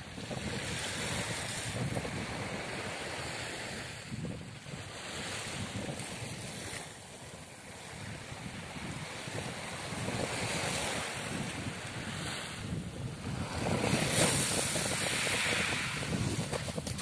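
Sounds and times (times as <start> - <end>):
wind on microphone: 0.0 - 17.0
waves washing on gravel beach: 0.1 - 17.0.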